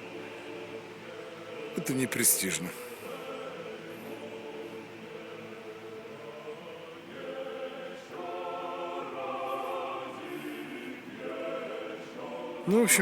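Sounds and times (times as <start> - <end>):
choir singing chords: 0.0 - 13.0.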